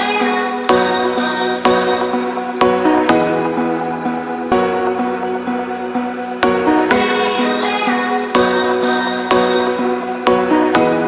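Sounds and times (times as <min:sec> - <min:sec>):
calm electronic music: 0:00.0 - 0:11.0.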